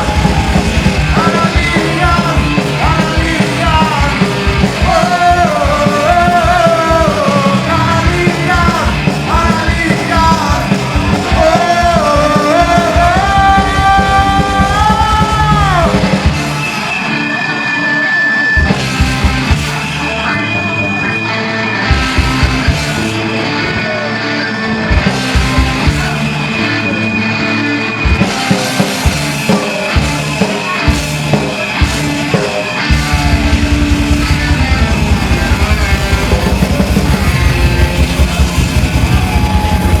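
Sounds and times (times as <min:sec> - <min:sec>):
person singing: 0:00.0 - 0:18.8, 0:23.1 - 0:40.0
guitar lines: 0:00.0 - 0:40.0
punk rock band playing: 0:00.0 - 0:40.0.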